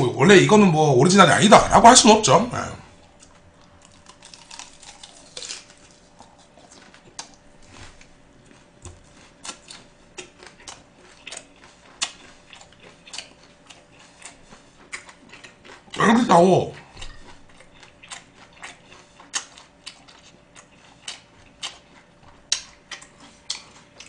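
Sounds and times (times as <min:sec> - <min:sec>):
person chewing food: 0:02.9 - 0:24.0.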